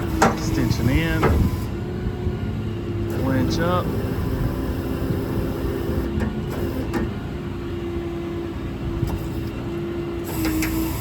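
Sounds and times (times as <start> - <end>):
diesel engine running: 0.0 - 11.0
hydraulic winch whine: 0.0 - 11.0.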